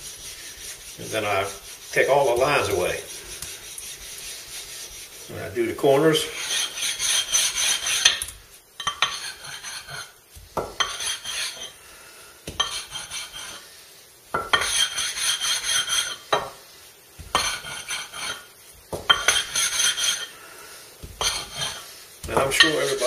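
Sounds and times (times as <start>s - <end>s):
diamond plate scraping whetstone: 0.0s - 11.8s, 12.5s - 13.6s, 14.4s - 16.6s, 17.2s - 20.4s, 21.0s - 23.0s.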